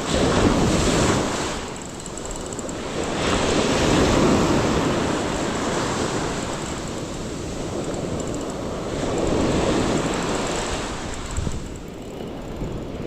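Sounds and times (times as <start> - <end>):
ocean surf breaking: 0.0 - 11.9
wind on microphone: 0.0 - 13.0.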